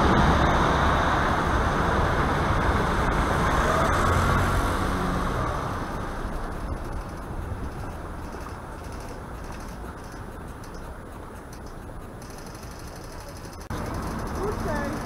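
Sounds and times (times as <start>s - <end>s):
rumble of cars in underpass: 0.0s - 15.0s.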